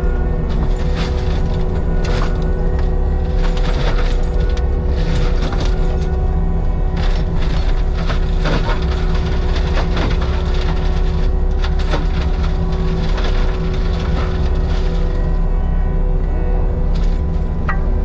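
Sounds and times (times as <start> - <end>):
wood cracking and snapping: 0.0 - 6.3, 6.9 - 15.5
heavy diesel machinery running: 0.0 - 18.0.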